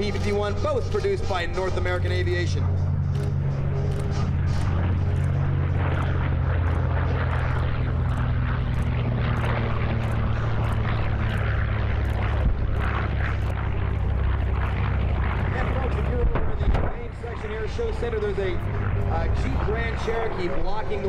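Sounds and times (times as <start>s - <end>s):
propeller aircraft flying past: 0.0s - 21.0s.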